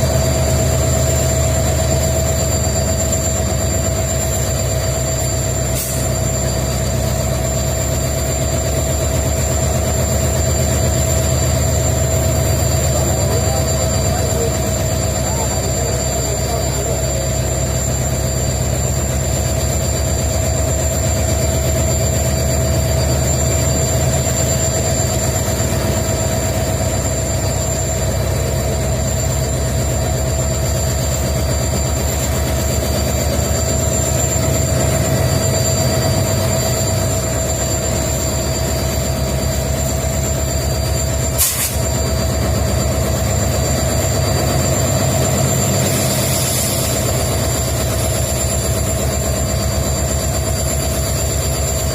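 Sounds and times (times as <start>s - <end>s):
diesel locomotive engines running: 0.0s - 51.9s.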